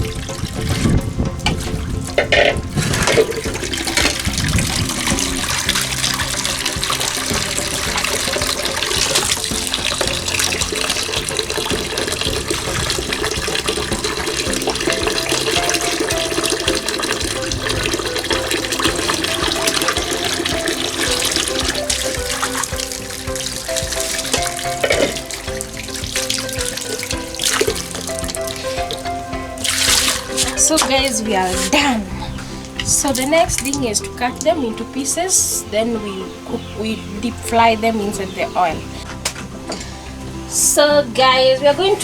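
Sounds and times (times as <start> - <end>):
faint background music: 0.0 - 42.0
water splashing in a basin: 0.0 - 42.0.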